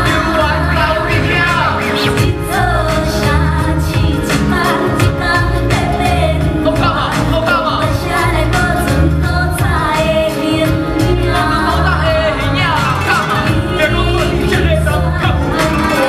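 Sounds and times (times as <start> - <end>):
heavy bass notes: 0.0 - 15.9
person singing: 0.0 - 16.0
steady drum beat: 0.0 - 16.0.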